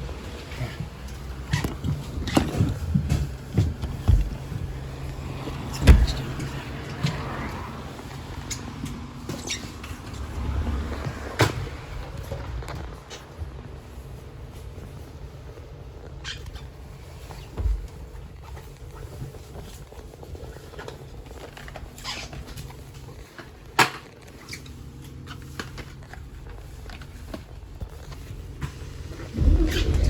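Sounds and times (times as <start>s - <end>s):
bus engine rumbling: 0.0s - 30.0s.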